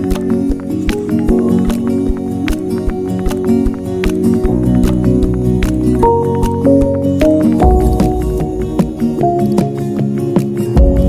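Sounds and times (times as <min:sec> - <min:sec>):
plucked acoustic guitar music: 0:00.0 - 0:11.0
steady beat: 0:02.1 - 0:11.0.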